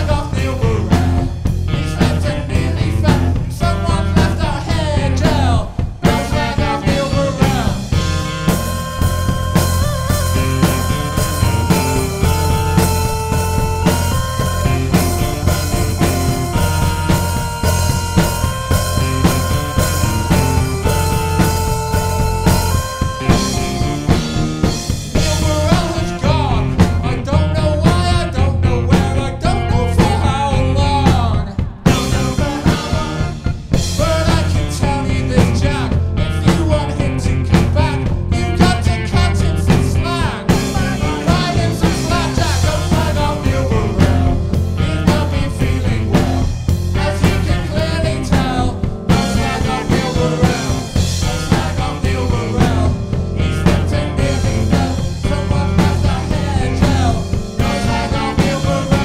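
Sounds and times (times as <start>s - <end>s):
person singing: 0.0s - 24.4s, 25.1s - 59.0s
live rock band playing: 0.0s - 59.0s.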